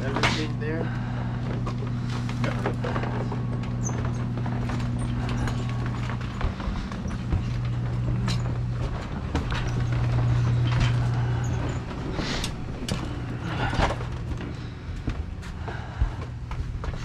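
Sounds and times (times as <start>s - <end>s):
cart wheels rolling on wooden floor: 0.0s - 17.0s
steady low hum: 0.0s - 17.0s.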